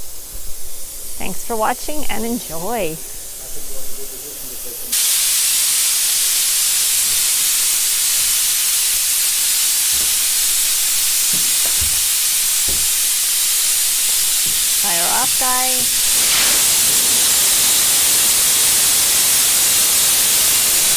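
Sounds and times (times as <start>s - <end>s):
loud steady hiss: 0.0s - 20.9s.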